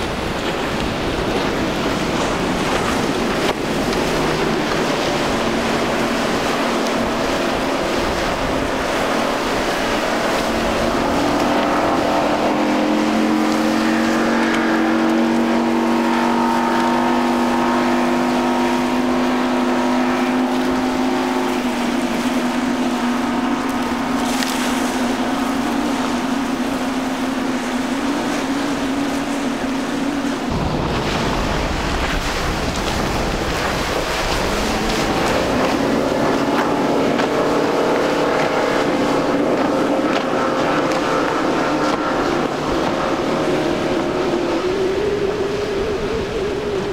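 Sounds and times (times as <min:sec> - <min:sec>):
outboard motor running at speed: 0:00.0 - 0:46.9
wind: 0:00.0 - 0:46.9.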